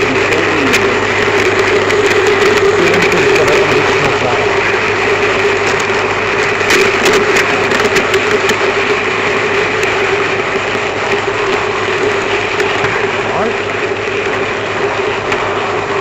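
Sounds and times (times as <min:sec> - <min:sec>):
model train motor whine: 0:00.0 - 0:16.0
wheels clicking over rails: 0:00.0 - 0:16.0.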